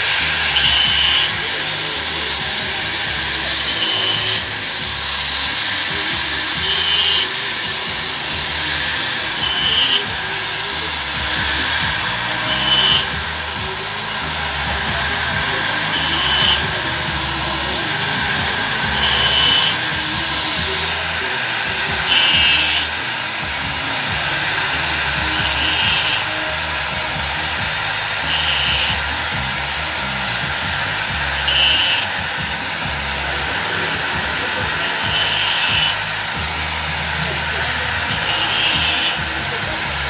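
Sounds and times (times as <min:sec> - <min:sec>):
angle grinder cutting metal: 0:00.0 - 0:40.0
short higher rasp: 0:00.0 - 0:40.0.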